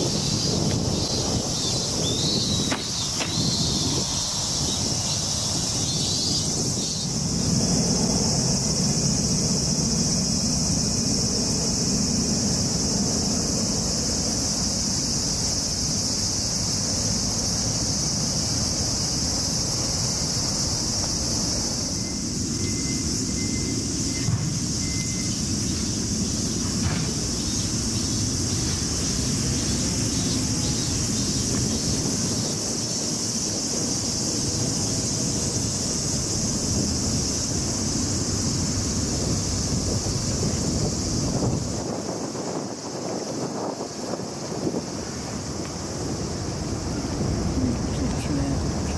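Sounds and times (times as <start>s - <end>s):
cicadas shrilling: 0.0s - 48.9s.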